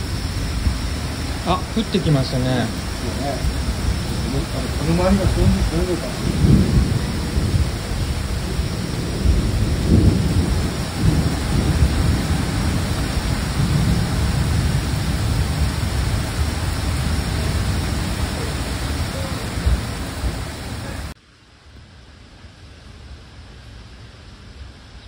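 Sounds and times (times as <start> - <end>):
heavy rain pouring: 0.0 - 21.2
low rumble of thunder: 0.0 - 21.2.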